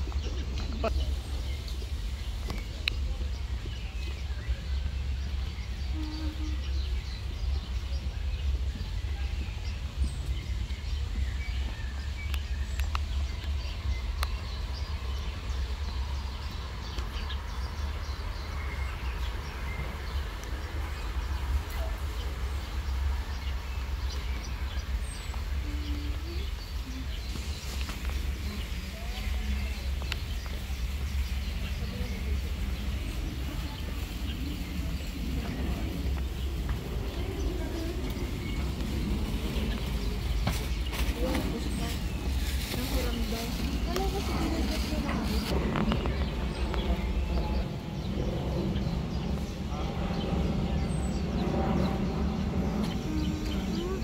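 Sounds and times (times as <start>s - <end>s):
distant people talking: 0.0s - 54.0s
wind rumble on microphone: 0.0s - 54.0s.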